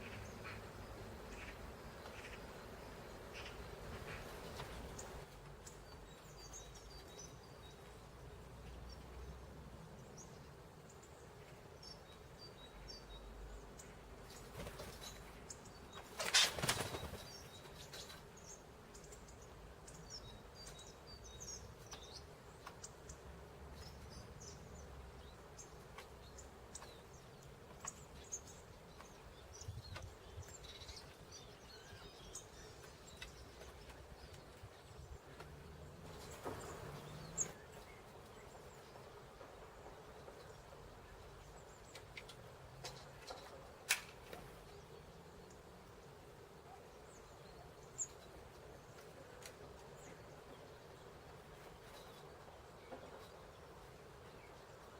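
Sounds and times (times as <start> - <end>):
low background hiss: 0.0 - 54.9
small songbirds chirping: 0.0 - 54.9.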